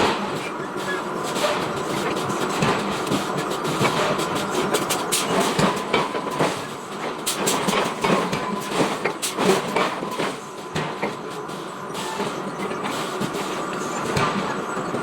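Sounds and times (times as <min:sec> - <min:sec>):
continuous mechanical din: 0:00.0 - 0:15.0.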